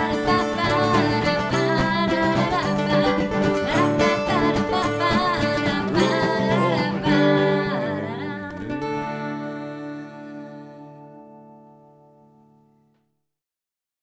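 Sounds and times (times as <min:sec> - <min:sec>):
country song with guitar and singing: 0:00.0 - 0:11.9.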